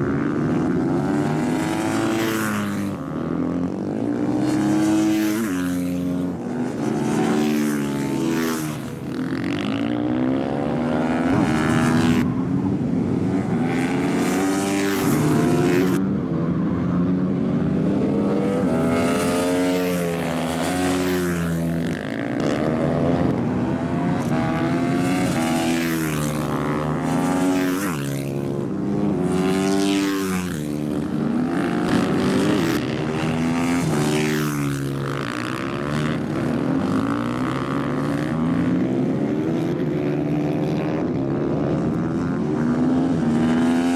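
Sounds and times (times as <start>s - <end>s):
motorcycles revving past: 0.0s - 43.9s.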